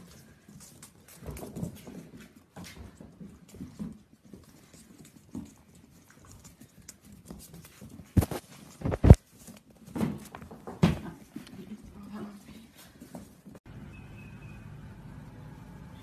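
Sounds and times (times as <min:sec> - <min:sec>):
puppy paws pattering on floor: 0:00.0 - 0:13.6.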